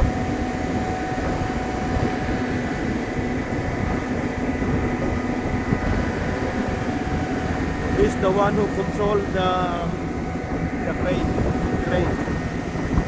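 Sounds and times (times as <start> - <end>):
engine drone: 0.0 - 13.0
thin steady whine: 0.0 - 13.0.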